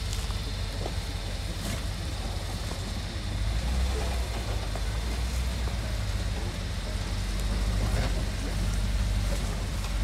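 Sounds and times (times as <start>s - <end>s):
vehicle engine running low: 0.0s - 10.0s.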